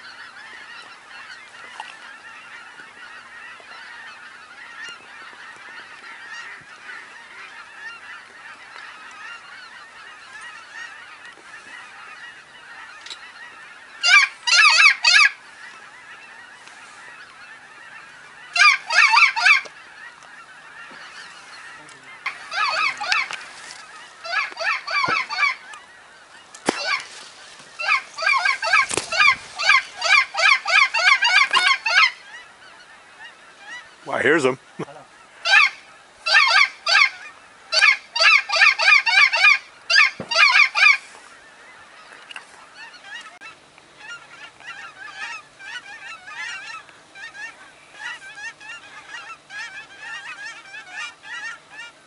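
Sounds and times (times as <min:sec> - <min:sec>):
close rapid goose honking: 0:00.0 - 0:52.0
distant geese honking: 0:00.0 - 0:52.0.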